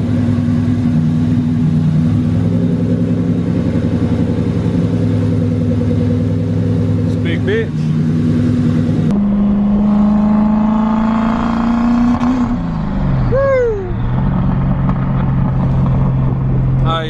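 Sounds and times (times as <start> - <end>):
car engine idling: 0.0 - 11.1, 12.5 - 17.0.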